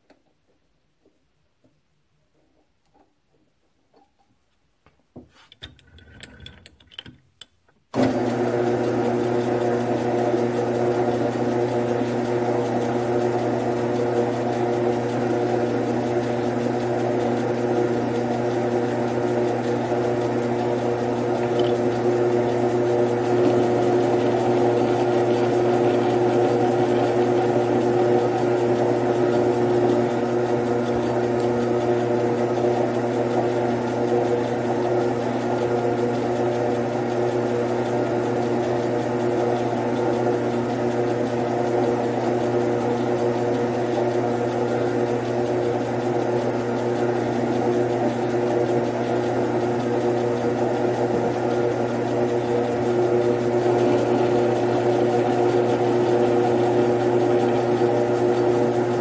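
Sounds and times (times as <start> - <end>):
metal lathe motor hum: 5.6 - 7.2, 8.0 - 59.0.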